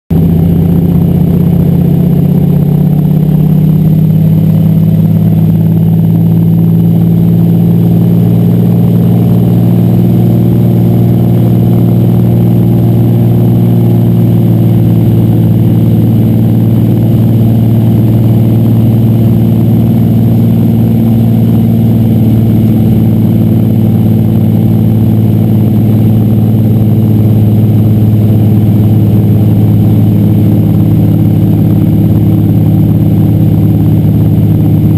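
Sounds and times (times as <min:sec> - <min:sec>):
plane engine and propeller drone: 0:00.1 - 0:34.9.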